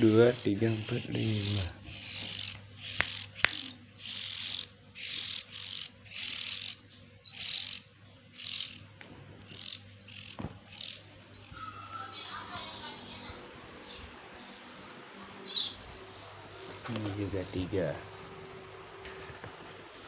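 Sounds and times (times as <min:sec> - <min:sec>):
nestlings begging calls: 0:00.0 - 0:20.0.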